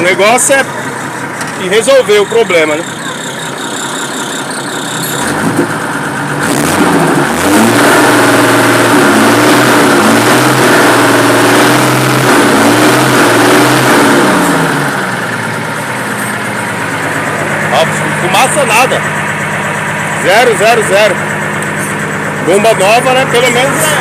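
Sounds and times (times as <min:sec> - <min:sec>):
diesel truck engine revving: 0:00.0 - 0:24.0.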